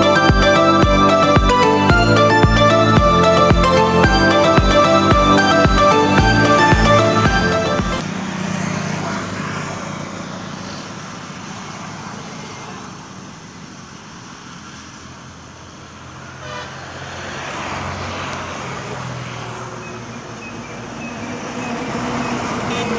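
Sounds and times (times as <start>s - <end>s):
road traffic: 0.0s - 22.9s.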